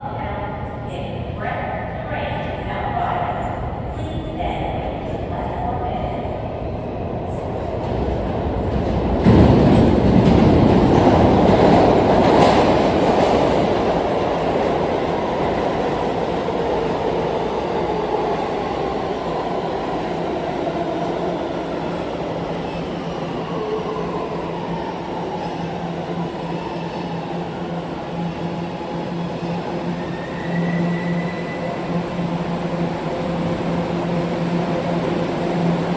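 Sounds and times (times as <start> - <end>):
subway train rumble: 0.0 - 35.9.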